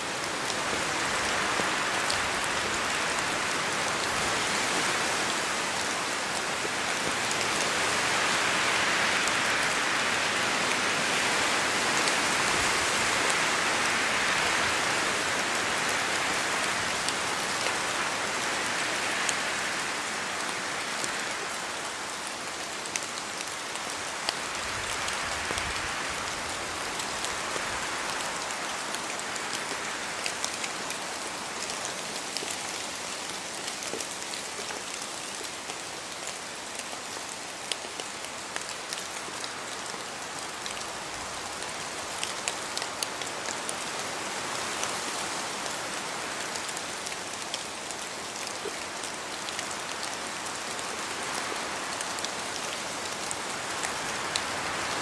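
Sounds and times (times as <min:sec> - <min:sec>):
rain on foliage: 0:00.0 - 0:55.0.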